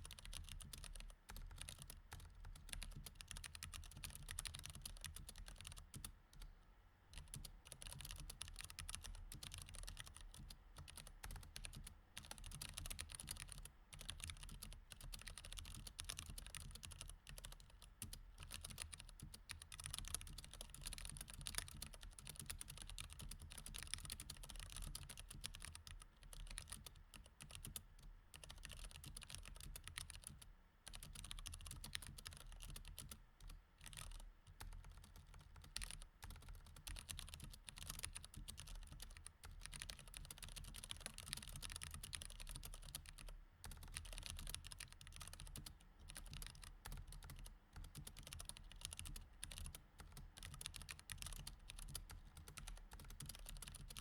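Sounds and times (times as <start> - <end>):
typing on mechanical keyboard: 0.0 - 6.5, 7.2 - 54.0.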